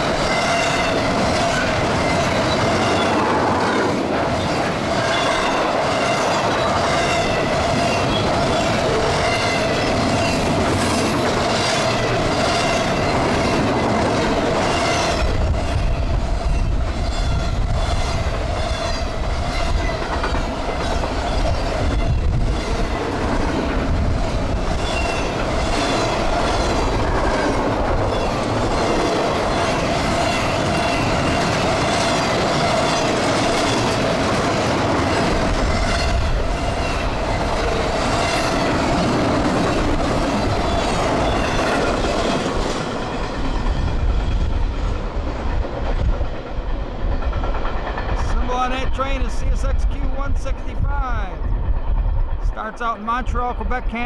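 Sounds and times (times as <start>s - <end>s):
train wheels clicking over rail joints: 0.0s - 49.2s.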